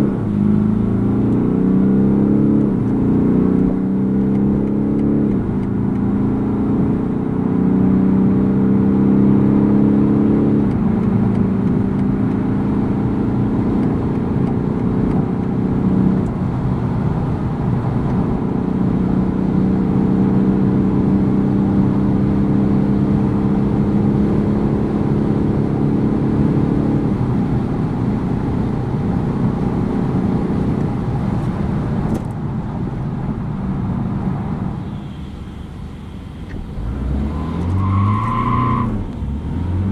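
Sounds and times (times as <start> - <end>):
diesel engine drone: 0.0 - 39.9
road and wind noise: 0.0 - 39.9.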